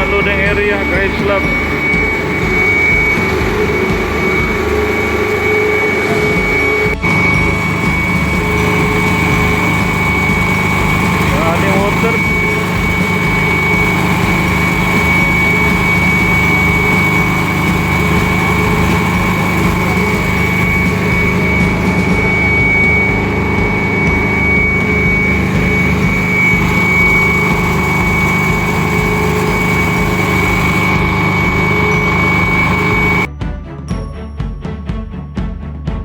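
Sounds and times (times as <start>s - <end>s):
engine whining under load: 0.0s - 33.3s.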